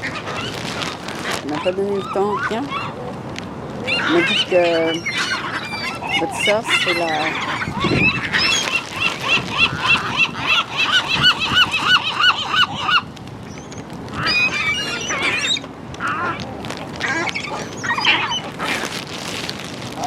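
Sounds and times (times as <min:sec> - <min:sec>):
gulls calling: 0:00.0 - 0:03.2, 0:03.8 - 0:20.0.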